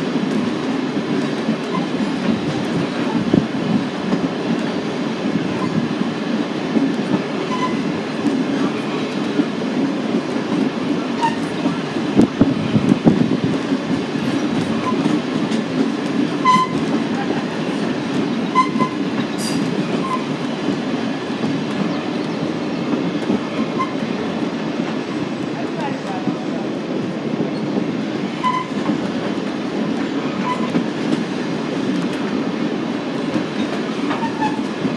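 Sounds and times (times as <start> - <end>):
train rumbling along track: 0.0 - 34.9.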